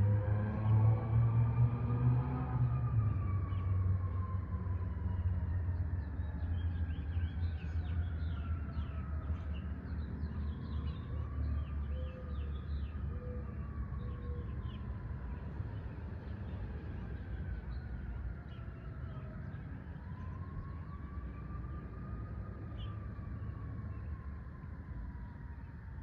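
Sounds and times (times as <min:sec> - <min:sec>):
faint siren wailing: 0:00.0 - 0:26.0.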